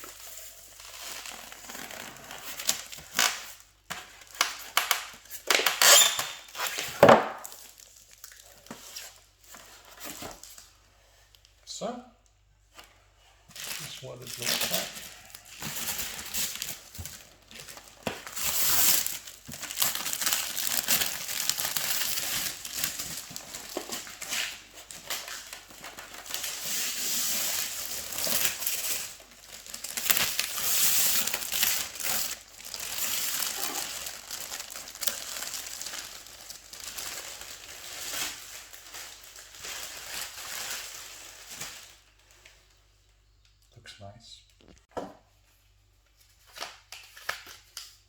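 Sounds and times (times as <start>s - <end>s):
packaging crinkling and rustling: 0.0s - 11.6s, 12.7s - 42.8s.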